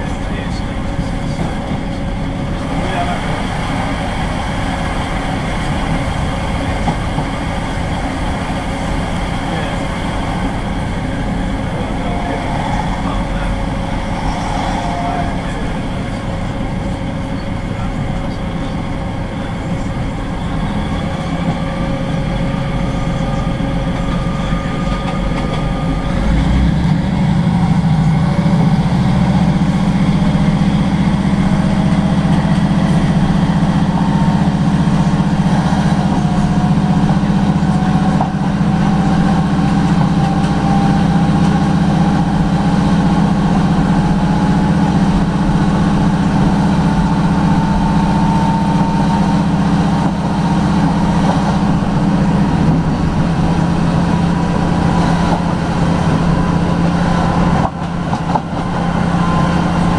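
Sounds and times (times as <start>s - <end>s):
diesel train engine running: 0.0s - 59.9s.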